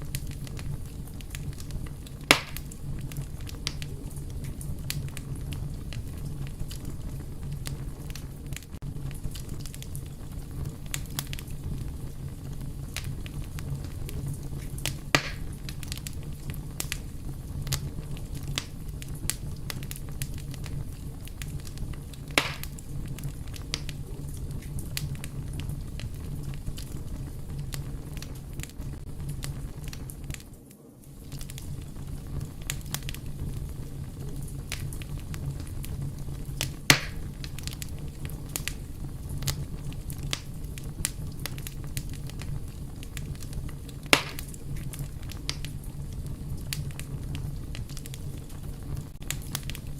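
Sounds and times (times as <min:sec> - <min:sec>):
fire crackling snaps: 0:00.0 - 0:49.9
loud fire pops: 0:00.0 - 0:49.9
rumble of flames: 0:00.0 - 0:49.9.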